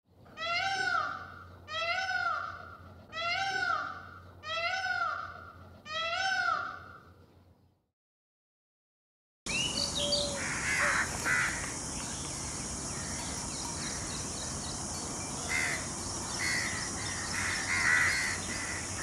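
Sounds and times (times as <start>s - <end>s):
peacock calling: 0.4s - 7.1s, 9.5s - 19.0s.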